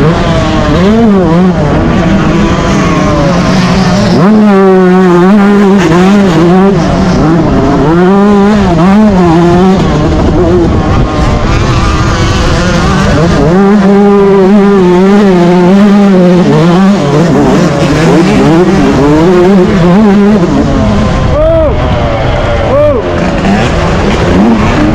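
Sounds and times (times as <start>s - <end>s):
two-stroke engine racing: 0.0s - 24.9s.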